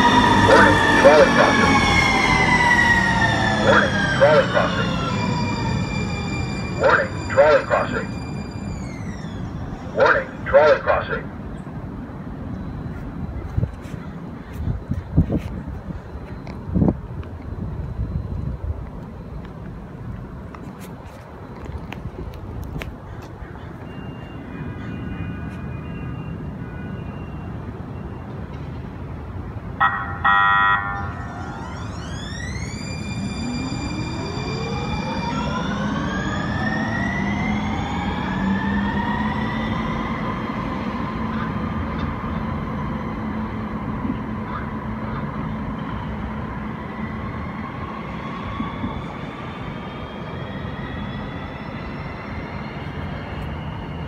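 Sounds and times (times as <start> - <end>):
train hum and rumble: 0.0 - 54.0.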